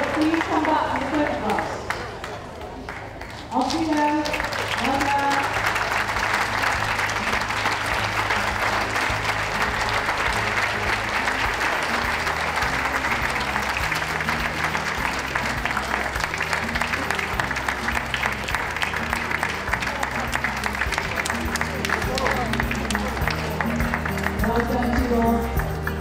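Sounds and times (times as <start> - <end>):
audience applauding: 0.0 - 26.0
music playing: 4.6 - 26.0.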